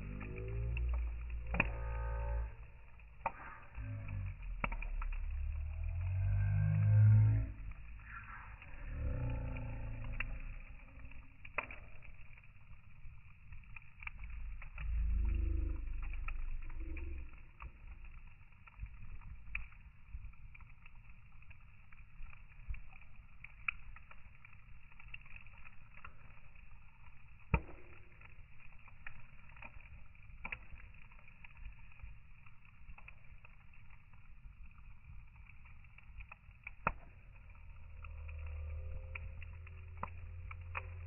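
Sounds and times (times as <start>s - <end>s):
logs crackling and popping: 0.0s - 41.0s
rumble of flames: 0.0s - 41.0s.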